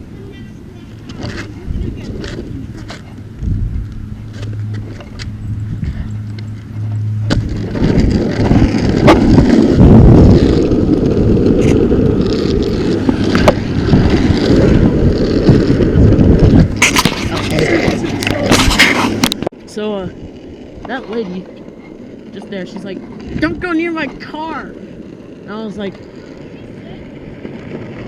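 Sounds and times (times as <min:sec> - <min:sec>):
longboard wheels rumbling on pavement: 0:00.0 - 0:28.0.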